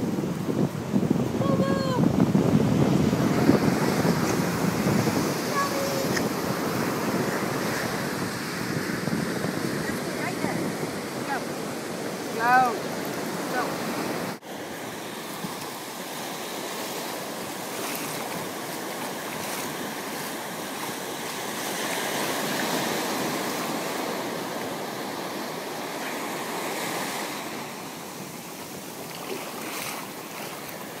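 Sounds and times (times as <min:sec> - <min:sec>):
waves washing onto sandy beach: 0:00.0 - 0:31.0.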